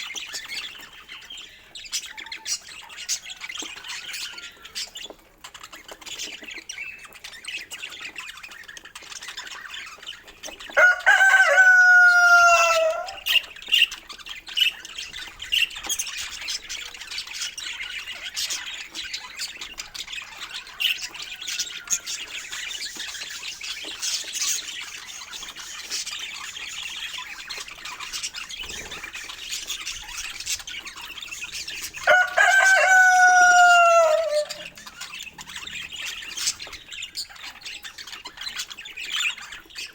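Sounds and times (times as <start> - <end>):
budgerigars chattering: 0.0 - 39.9
long loud bird calls: 6.2 - 39.9.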